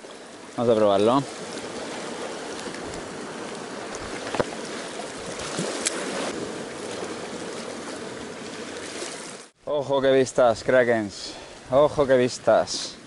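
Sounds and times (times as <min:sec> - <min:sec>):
waves lapping against rocks: 0:00.0 - 0:13.0.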